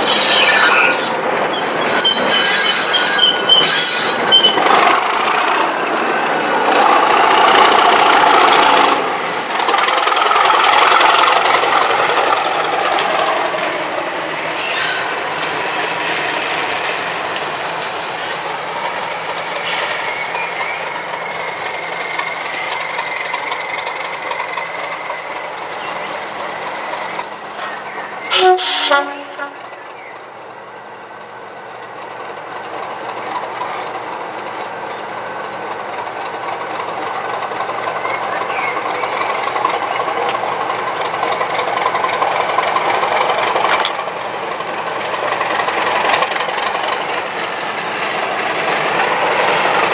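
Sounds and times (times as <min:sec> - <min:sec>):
diesel locomotive engine: 0:00.0 - 0:49.9.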